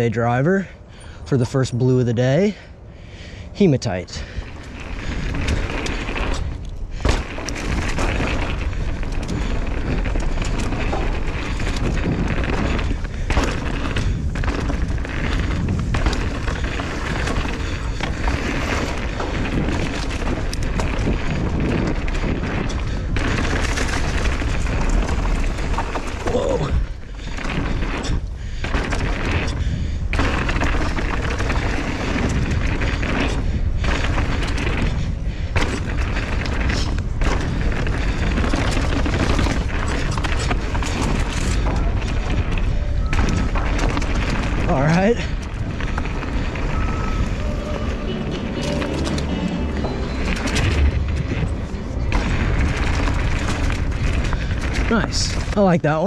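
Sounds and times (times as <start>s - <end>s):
bike tyre noise on dirt: 0.0s - 56.0s
wind buffeting microphone: 0.0s - 56.0s
bike knocks and rattles: 4.2s - 56.0s.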